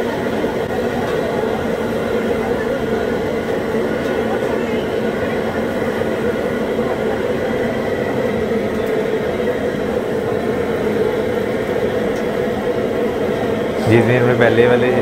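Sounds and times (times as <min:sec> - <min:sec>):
busy street food stall din: 0:00.0 - 0:15.0.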